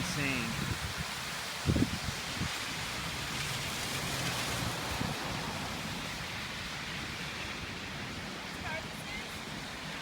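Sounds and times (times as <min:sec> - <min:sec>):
water hissing on road: 0:00.0 - 0:10.0.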